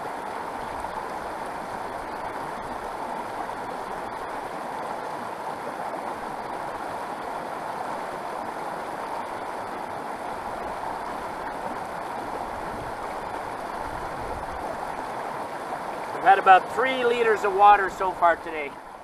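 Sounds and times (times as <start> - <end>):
creek rushing over rocks: 0.0 - 19.0.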